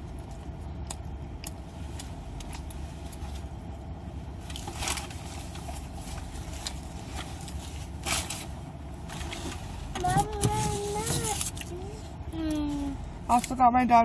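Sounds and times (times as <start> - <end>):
car idling from inside cabin: 0.0 - 14.0.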